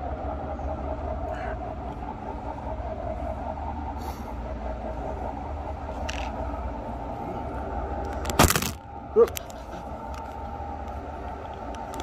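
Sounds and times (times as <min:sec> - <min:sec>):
model trains humming and rumbling: 0:00.0 - 0:12.0.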